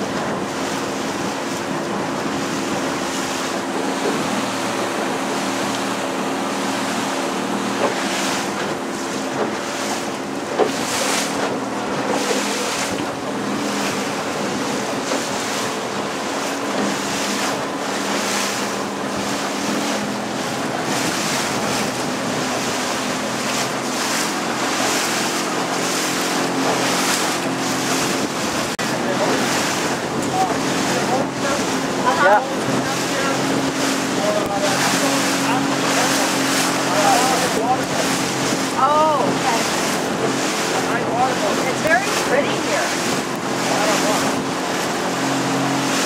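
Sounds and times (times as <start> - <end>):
boat motor running: 0.0 - 46.0
water splashing along hull: 0.0 - 46.0
wind on microphone: 0.0 - 46.0.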